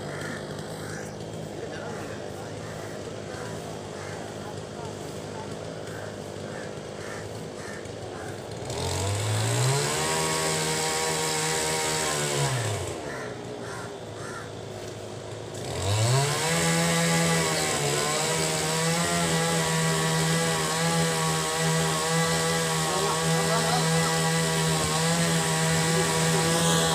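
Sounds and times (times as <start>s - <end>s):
small engine revving: 0.0s - 26.9s.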